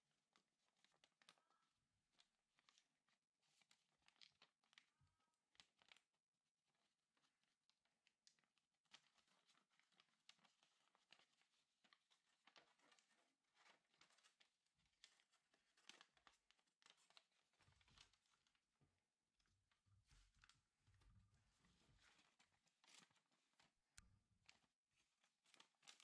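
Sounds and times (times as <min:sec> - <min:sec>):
paper rustling and crinkling: 0:00.3 - 0:06.1, 0:06.7 - 0:18.7, 0:19.6 - 0:23.8, 0:24.4 - 0:26.0.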